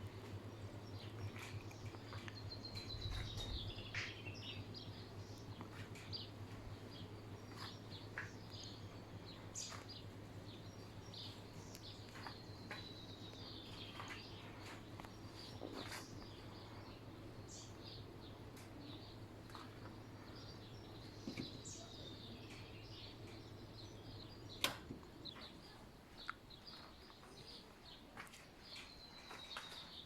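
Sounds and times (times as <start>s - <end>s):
birds chirping: 0.0s - 30.0s
steady low hum: 0.0s - 30.0s.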